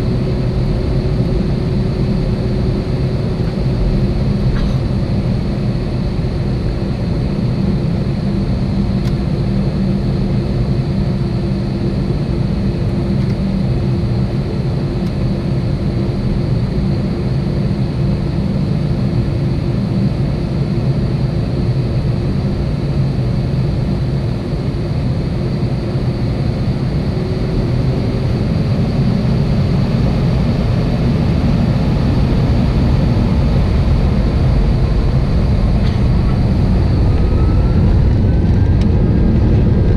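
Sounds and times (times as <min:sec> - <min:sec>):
jet engines humming in cabin: 0:00.0 - 0:39.9.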